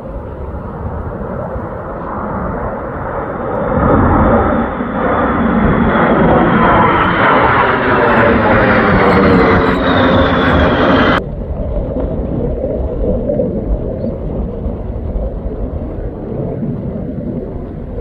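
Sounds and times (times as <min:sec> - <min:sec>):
fighter jets roaring overhead: 0:00.0 - 0:18.0
low rumble: 0:00.0 - 0:18.0.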